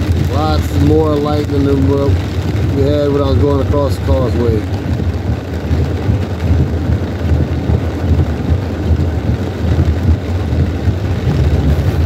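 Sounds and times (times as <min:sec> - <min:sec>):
car cabin low rumble: 0:00.0 - 0:12.0
rain hissing on car: 0:00.0 - 0:12.0.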